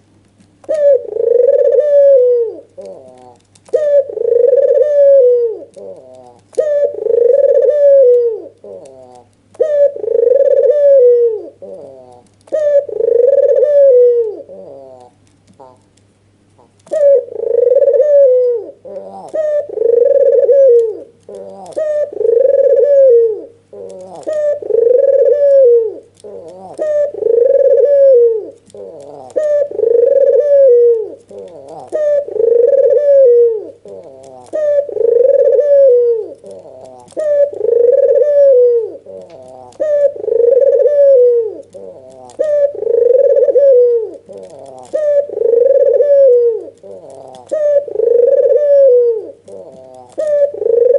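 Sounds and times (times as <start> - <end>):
faint low hum: 0.0 - 50.9
dove cooing: 0.6 - 16.0, 16.6 - 50.9.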